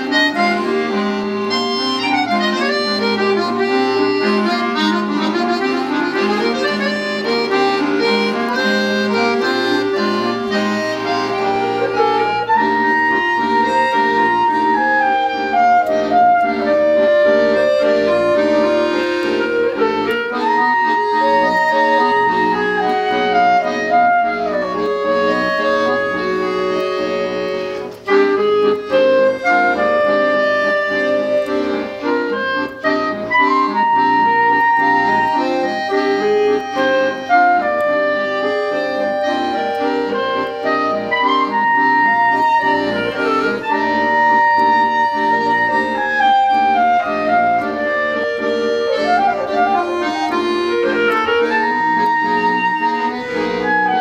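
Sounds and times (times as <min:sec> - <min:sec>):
button accordion chords: 0:00.0 - 0:54.0
clarinet melody: 0:00.0 - 0:54.0.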